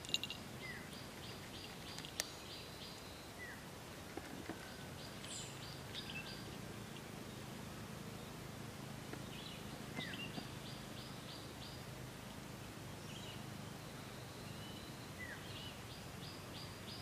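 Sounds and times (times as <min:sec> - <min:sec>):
outdoor background hiss: 0:00.0 - 0:17.0
wild birds chirping: 0:00.0 - 0:17.0.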